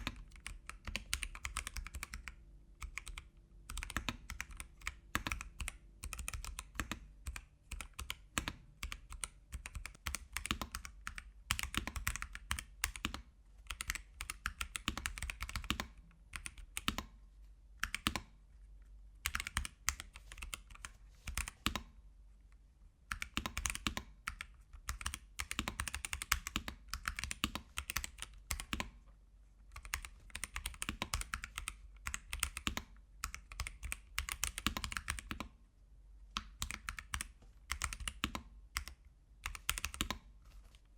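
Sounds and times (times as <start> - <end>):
mechanical keyboard typing: 0.0 - 17.2, 17.8 - 18.4, 19.2 - 22.0, 23.1 - 29.0, 29.7 - 35.6, 36.3 - 40.3.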